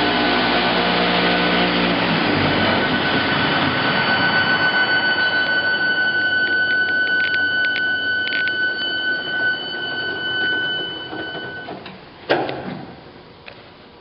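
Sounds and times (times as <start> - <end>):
sanding machine running: 0.0 - 11.3
high whine: 0.0 - 11.9.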